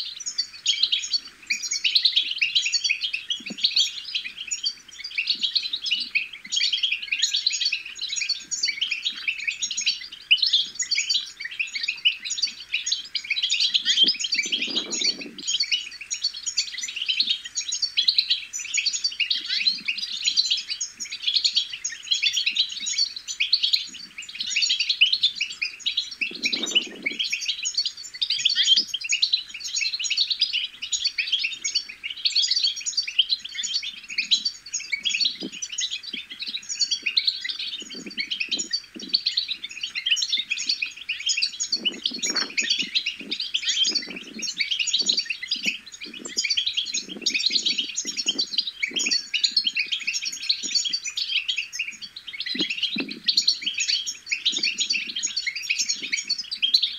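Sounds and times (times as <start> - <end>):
goldfinch twittering: 0.2 - 56.9.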